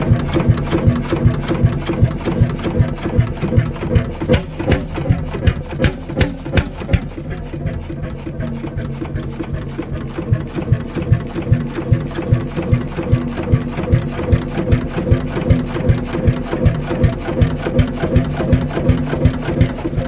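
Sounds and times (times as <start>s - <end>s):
diesel engine running slowly: 0.0s - 20.0s.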